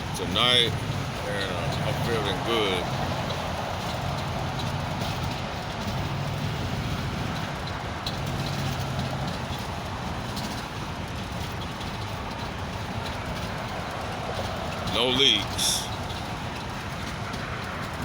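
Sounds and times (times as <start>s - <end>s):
truck engine low rumble: 0.0s - 18.0s.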